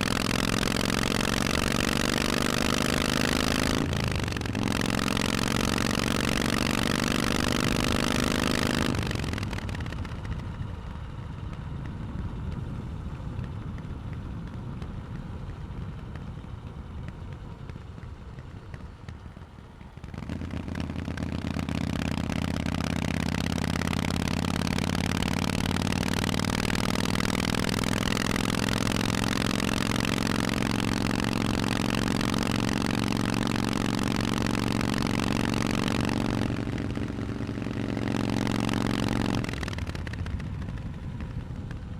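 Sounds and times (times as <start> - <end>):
motorcycle engine running loud: 0.0 - 41.9.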